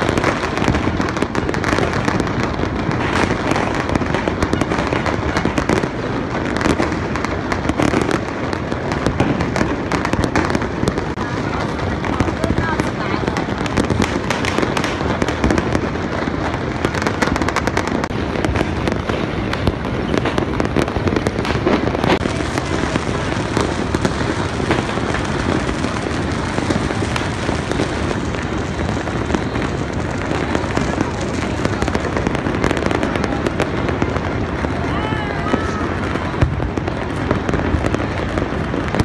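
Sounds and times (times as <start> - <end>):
firecrackers and fireworks crackling: 0.0 - 39.0.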